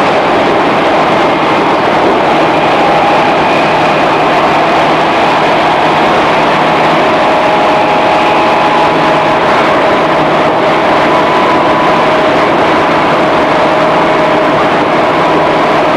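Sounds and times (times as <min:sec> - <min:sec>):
traction motor whine: 0:00.0 - 0:15.9
train rolling noise: 0:00.0 - 0:15.9.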